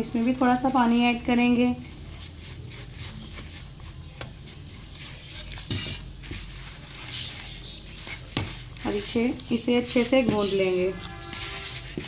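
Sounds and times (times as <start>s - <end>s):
hand mixing dough in plastic bowl: 0.0s - 12.0s.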